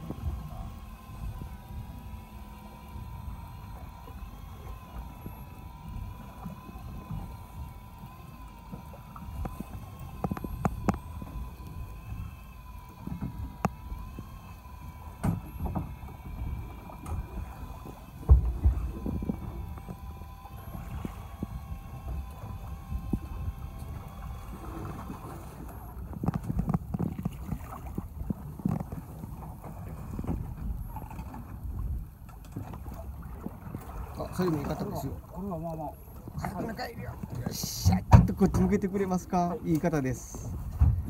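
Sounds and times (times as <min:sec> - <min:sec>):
boat engine drone: 0:00.0 - 0:41.0
choppy sea rumbling: 0:00.0 - 0:41.0
faint steady whine: 0:00.0 - 0:41.0
wind: 0:00.0 - 0:41.0.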